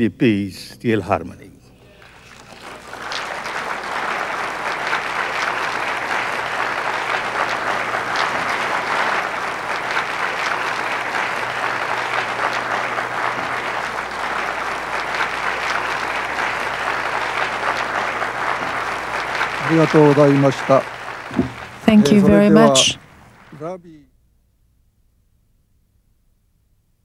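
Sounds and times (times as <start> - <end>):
audience applause: 1.9 - 23.7.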